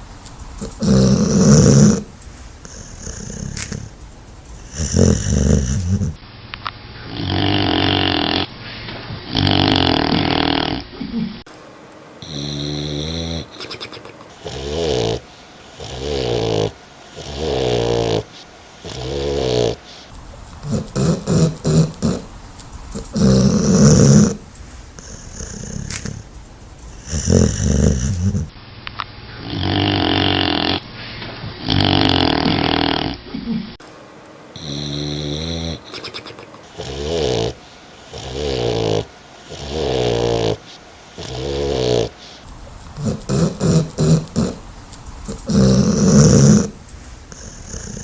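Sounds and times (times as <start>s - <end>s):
dog snoring: 0.6s - 6.2s, 7.0s - 8.5s, 9.1s - 11.4s, 12.2s - 26.3s, 26.9s - 28.6s, 29.3s - 33.8s, 34.5s - 48.0s
dog snorting: 0.6s - 6.2s, 7.0s - 11.4s, 12.2s - 28.6s, 29.3s - 33.8s, 34.6s - 48.0s.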